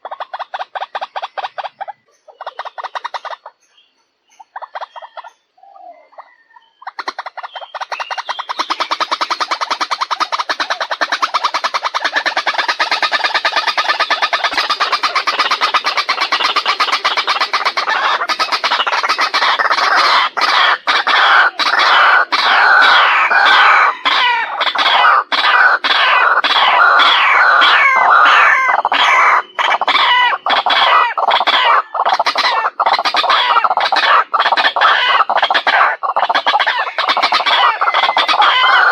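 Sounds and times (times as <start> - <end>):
waterhen calling harshly: 6.2 - 38.9.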